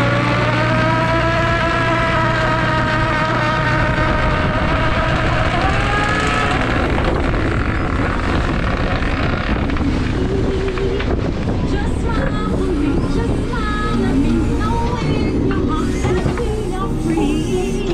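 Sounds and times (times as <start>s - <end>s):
churning water: 0.0s - 17.9s
hydraulic hauler whining: 0.0s - 17.9s
low engine drone: 0.0s - 17.9s.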